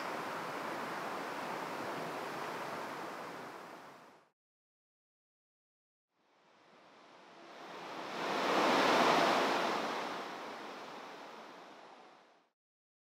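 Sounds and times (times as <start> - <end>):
wind: 0.0 - 4.3, 6.1 - 12.5.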